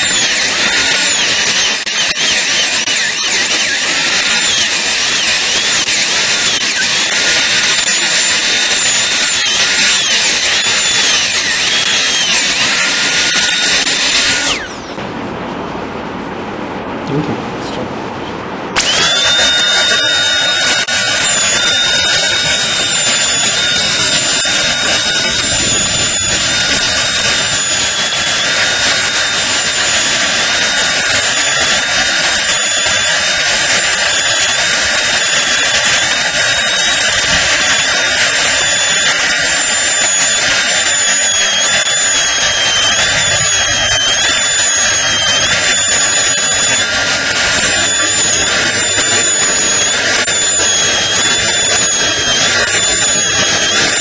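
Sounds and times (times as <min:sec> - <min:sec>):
dental drill whining: 0:00.0 - 0:15.0, 0:18.7 - 0:54.0.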